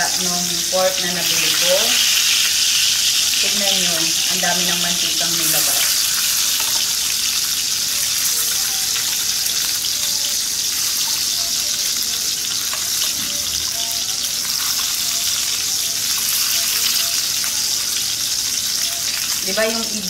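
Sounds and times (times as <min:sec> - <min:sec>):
pork sizzling in skillet: 0:00.0 - 0:20.0
tongs turning meat: 0:00.0 - 0:20.0.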